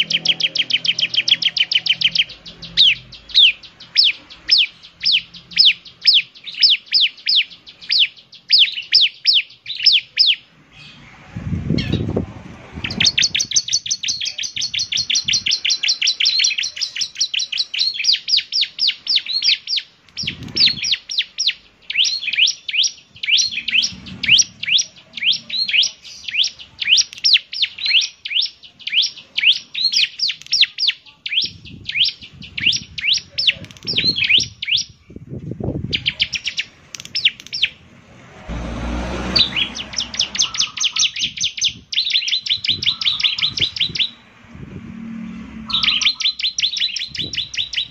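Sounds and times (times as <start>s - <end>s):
bird singing high sharp chirps: 0.0s - 11.0s, 12.8s - 44.3s, 45.5s - 47.9s.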